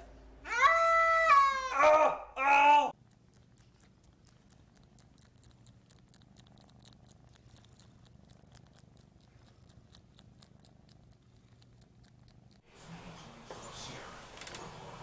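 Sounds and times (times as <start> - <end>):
cat purring: 2.9 - 15.0.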